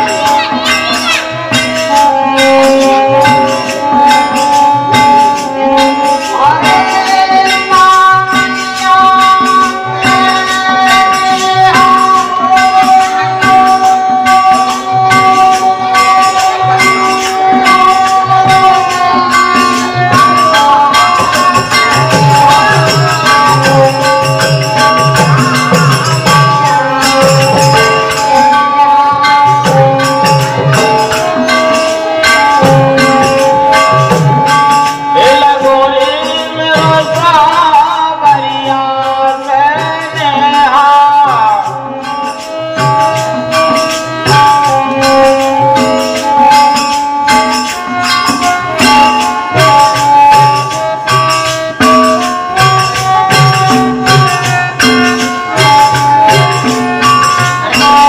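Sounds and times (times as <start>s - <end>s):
hand drums beat: 0.0s - 58.0s
harmonium: 0.0s - 58.0s
jingling percussion: 0.0s - 58.0s
person singing: 0.0s - 58.0s.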